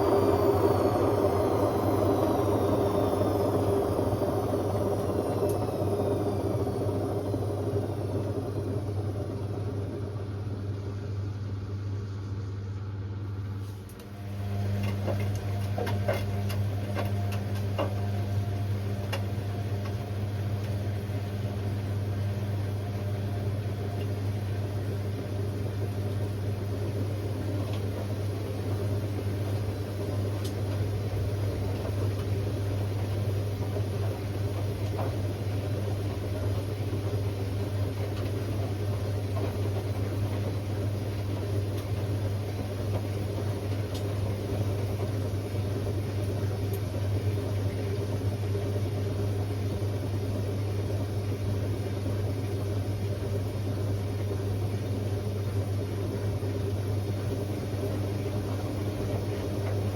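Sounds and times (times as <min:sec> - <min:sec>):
washing machine spinning hum: 0:00.0 - 0:59.9.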